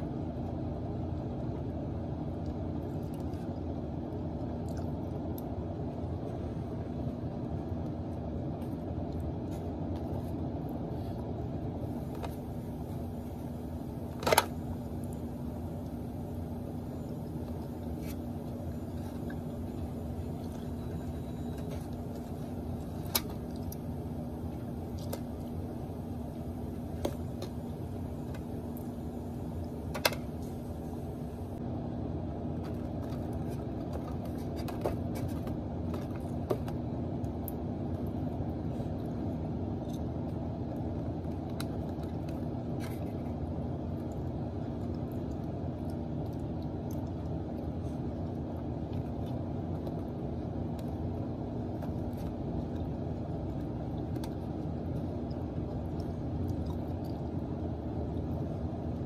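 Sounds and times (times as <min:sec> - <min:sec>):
low rumbling hum: 0:00.0 - 0:59.0.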